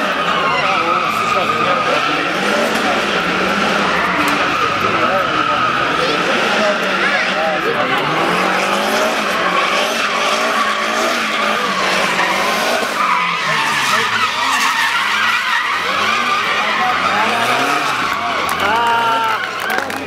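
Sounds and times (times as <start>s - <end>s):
car engine revving: 0.0s - 20.0s
tyres squealing on asphalt: 0.0s - 20.0s.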